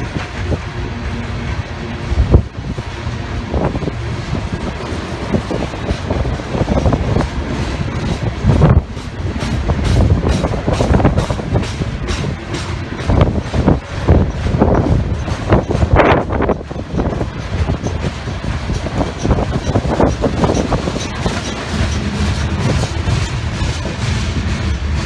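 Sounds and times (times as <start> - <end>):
train rolling rumble: 0.0 - 25.0
train wheels clicking over rail joints: 0.0 - 25.0.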